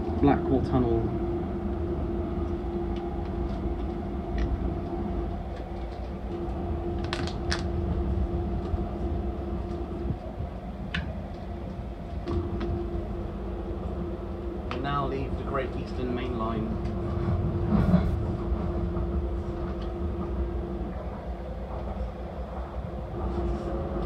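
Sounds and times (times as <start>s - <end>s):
train rumble: 0.0s - 24.0s
train whine: 0.0s - 24.0s.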